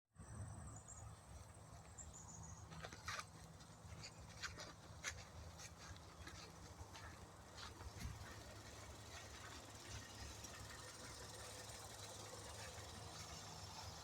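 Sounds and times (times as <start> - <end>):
low steady rumble: 0.2 - 14.0.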